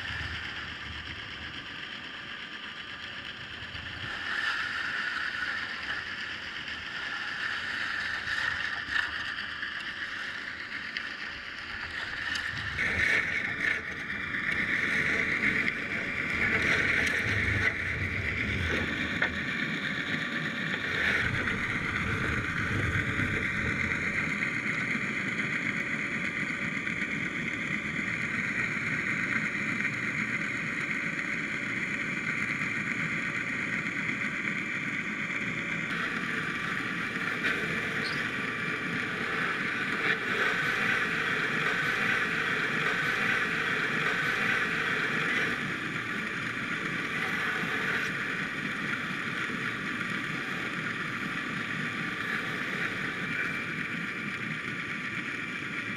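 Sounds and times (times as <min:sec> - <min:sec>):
boat motor droning underwater: 0:00.0 - 0:55.9
water noise: 0:00.0 - 0:55.9.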